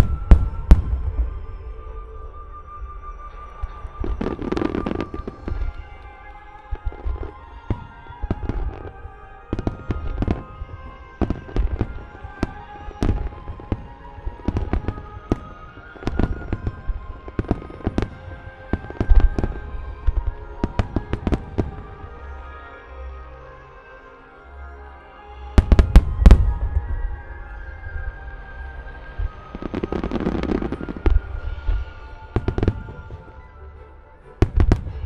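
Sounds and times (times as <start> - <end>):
fireworks bursting: 0.0 - 22.2, 25.6 - 28.1, 29.0 - 33.5, 34.4 - 35.0
theme music: 0.0 - 35.0.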